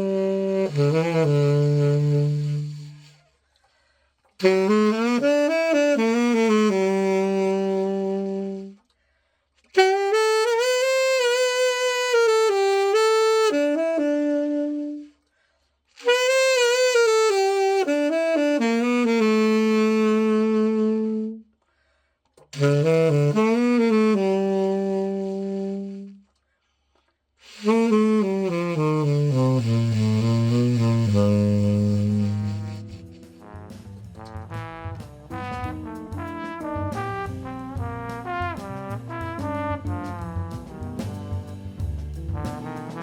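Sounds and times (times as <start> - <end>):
tenor saxophone playing: 0.0 - 3.4, 4.4 - 8.9, 9.6 - 15.2, 16.0 - 21.5, 22.5 - 26.3, 27.4 - 43.0.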